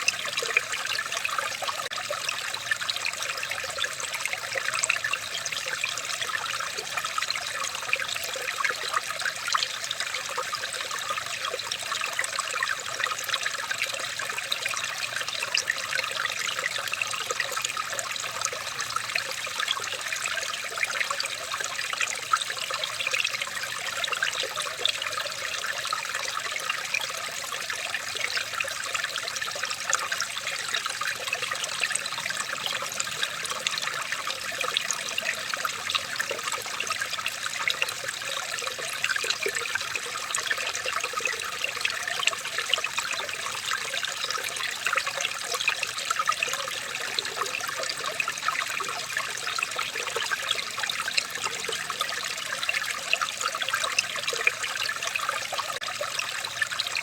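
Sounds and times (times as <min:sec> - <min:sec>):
water trickling and babbling: 0:00.0 - 0:57.0.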